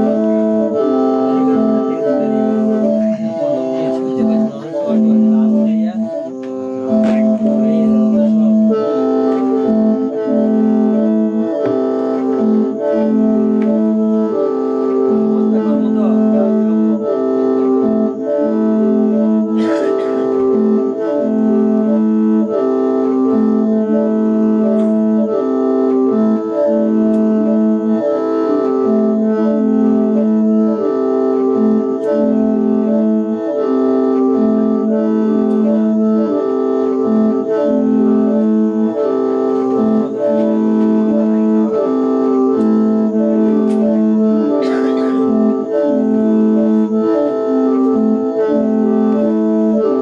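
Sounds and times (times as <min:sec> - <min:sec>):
mouth organ playing tune: 0:00.0 - 0:50.0.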